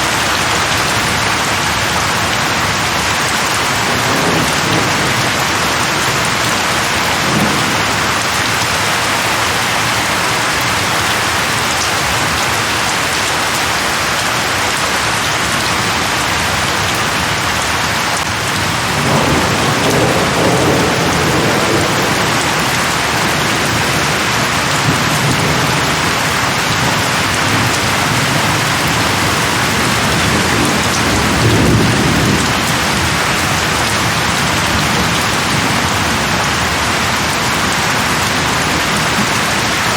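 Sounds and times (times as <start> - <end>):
heavy rain: 0.0 - 39.9
thunder rumbling: 2.5 - 14.0, 18.2 - 39.7.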